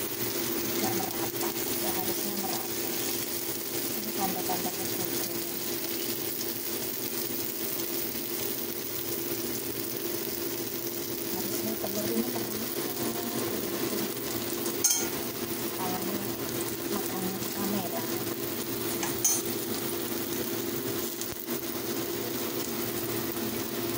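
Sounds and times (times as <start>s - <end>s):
food sizzling in oil: 0.0s - 23.9s.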